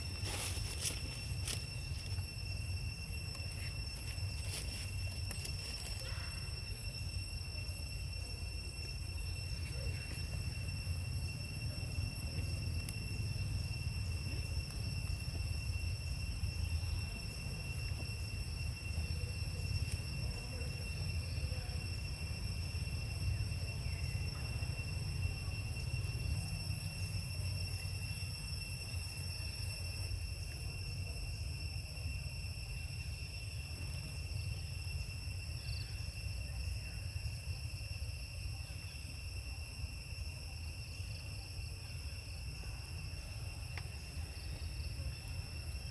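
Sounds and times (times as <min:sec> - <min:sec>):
high-pitched insect drone: 0:00.0 - 0:45.9.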